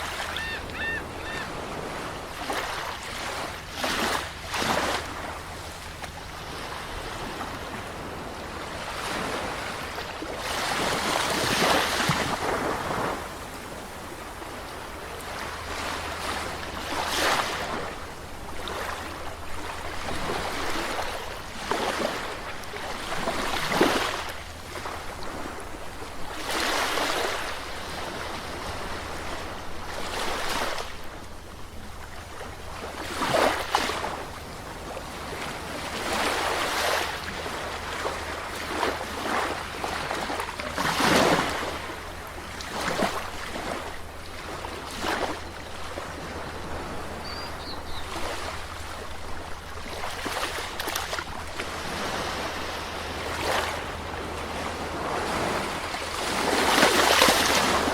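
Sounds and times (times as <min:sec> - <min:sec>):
sea waves washing onto shore: 0:00.0 - 0:57.9.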